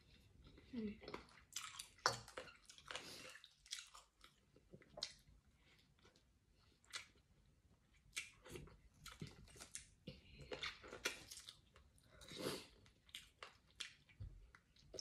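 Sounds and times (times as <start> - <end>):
person chewing with wet smacks: 0.0 - 15.0.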